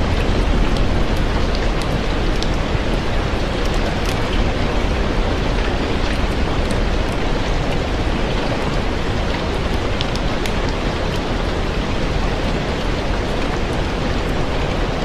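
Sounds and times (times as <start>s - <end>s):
dense rain: 0.0s - 15.0s.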